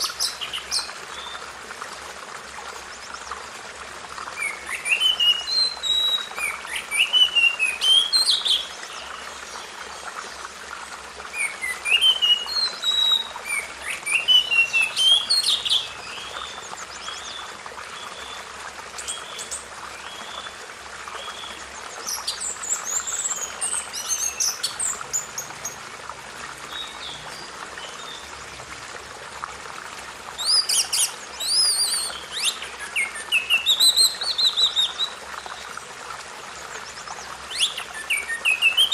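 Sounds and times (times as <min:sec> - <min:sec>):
songbirds chirping: 0:02.6 - 0:38.9.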